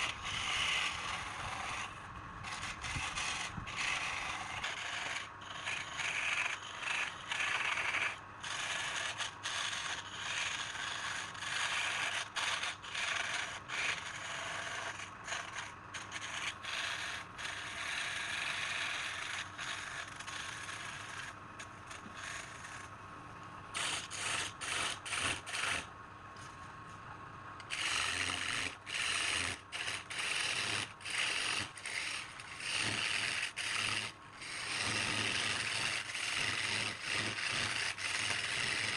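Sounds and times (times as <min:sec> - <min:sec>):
tool scraping spinning wood: 0:00.0 - 0:38.9.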